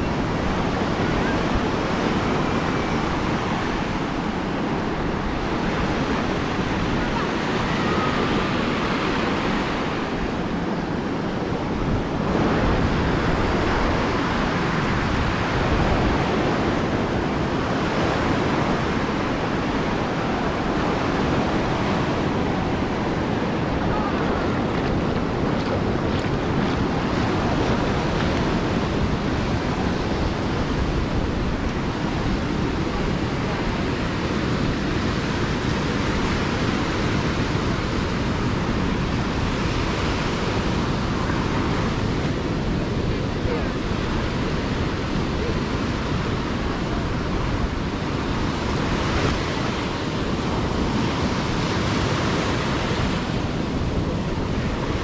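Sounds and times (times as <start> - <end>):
ocean surf breaking: 0.0 - 55.0
wind buffeting microphone: 0.0 - 55.0.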